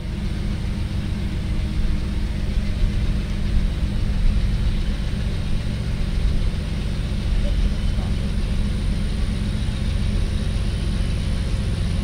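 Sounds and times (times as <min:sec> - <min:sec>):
diesel locomotive engine: 0:00.0 - 0:12.0.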